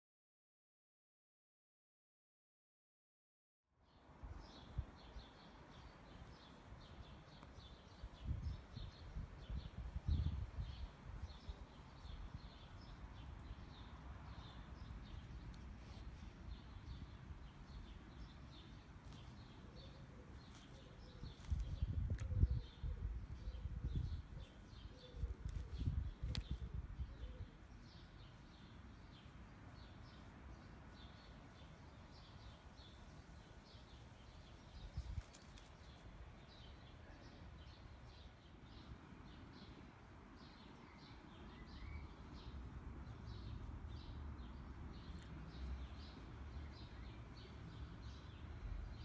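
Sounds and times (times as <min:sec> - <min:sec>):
small birds chirping: 0:03.8 - 0:49.0.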